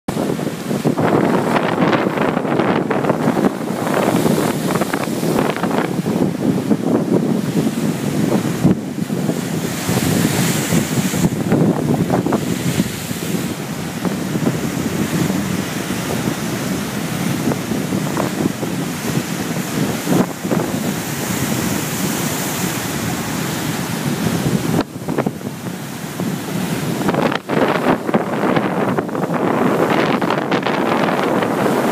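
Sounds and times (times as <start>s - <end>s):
waves breaking against rocks: 0.1s - 31.9s
wind buffeting microphone: 0.1s - 31.9s.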